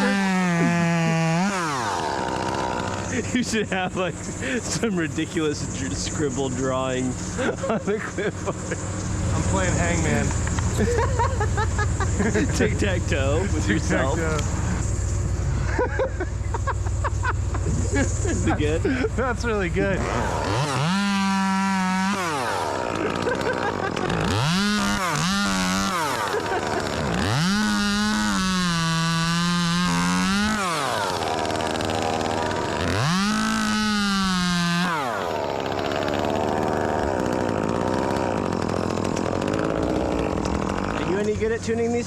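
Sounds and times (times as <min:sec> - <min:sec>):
chainsaw idling and revving: 0:00.0 - 0:42.0.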